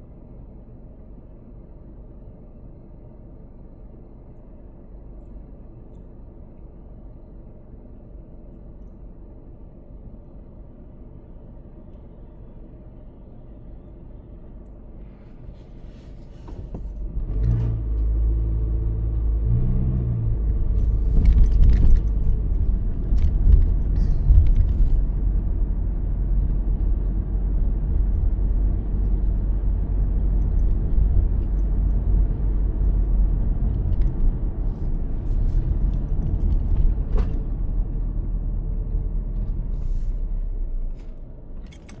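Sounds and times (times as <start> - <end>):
car engine and road rumble: 0.0 - 42.0.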